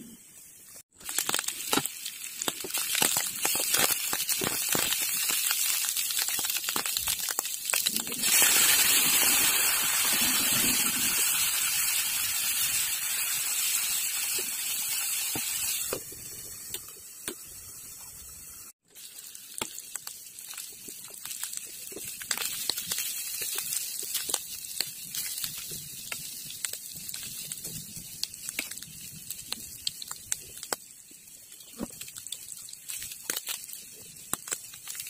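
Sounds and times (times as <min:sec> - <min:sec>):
food sizzling in a frying pan: 0:00.3 - 0:35.0.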